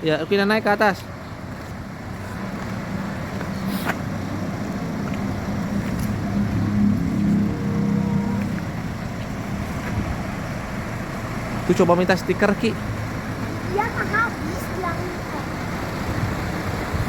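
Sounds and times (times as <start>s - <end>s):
vehicle engine running: 0.5s - 17.0s.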